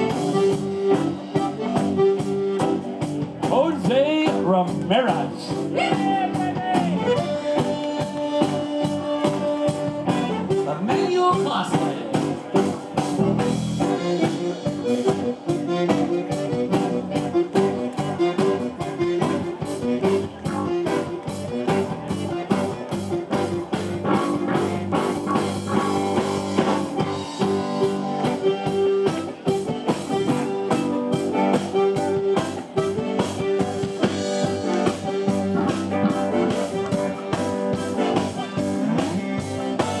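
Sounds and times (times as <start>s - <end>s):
blues guitar: 0.0s - 40.0s
drum kit beat: 0.0s - 40.0s.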